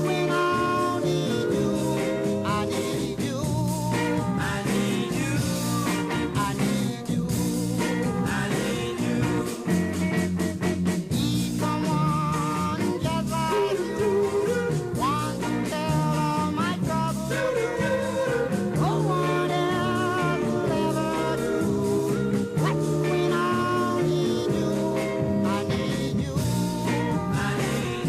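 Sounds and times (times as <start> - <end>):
vocal group singing: 0.0 - 10.2, 11.1 - 28.0
guitar bass and drums: 0.0 - 28.0.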